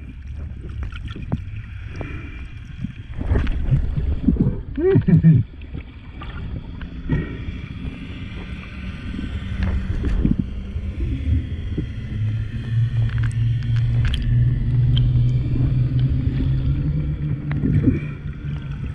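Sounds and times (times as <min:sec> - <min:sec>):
underwater motor drone: 0:00.0 - 0:18.9.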